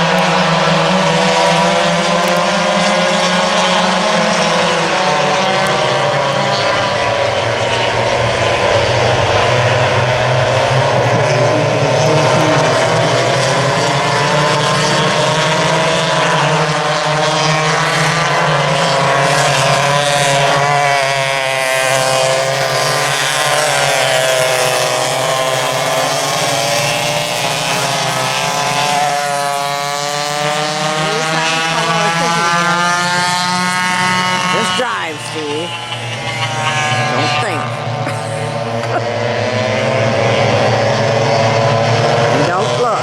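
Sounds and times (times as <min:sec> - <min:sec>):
go-kart engines racing: 0:00.0 - 0:43.0.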